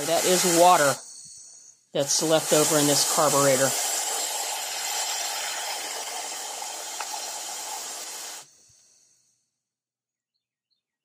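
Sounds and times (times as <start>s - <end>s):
compressed air blow gun hissing: 0.0s - 9.1s.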